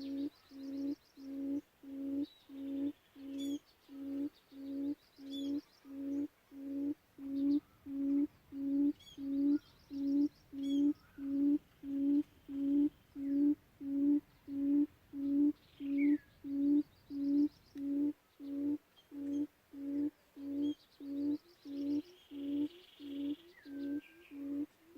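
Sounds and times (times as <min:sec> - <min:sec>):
faint bird chirps: 0:00.0 - 0:24.8
quail call hooting: 0:00.0 - 0:24.9.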